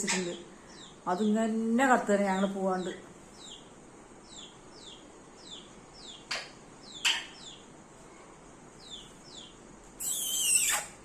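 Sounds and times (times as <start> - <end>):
small bird peeping: 0.0 - 1.4, 2.3 - 11.0.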